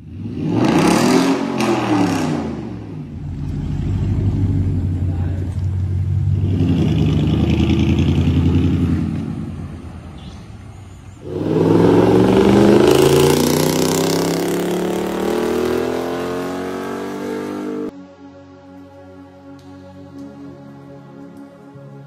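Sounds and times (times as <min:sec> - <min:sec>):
truck engine accelerating: 0:00.0 - 0:17.9.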